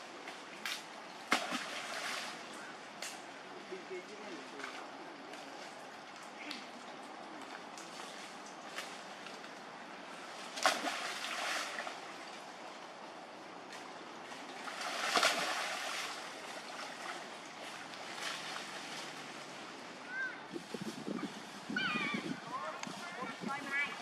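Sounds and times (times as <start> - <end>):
water splashing: 0.0 - 2.8, 3.8 - 12.7, 13.6 - 24.0
leaves rustling: 0.0 - 24.0
steady water noise: 0.0 - 24.0.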